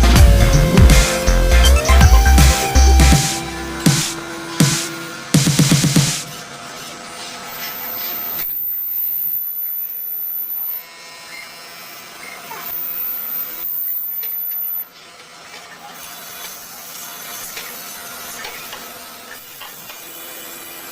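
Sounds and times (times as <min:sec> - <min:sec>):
lathe mechanical hiss and whine: 0:00.0 - 0:20.9.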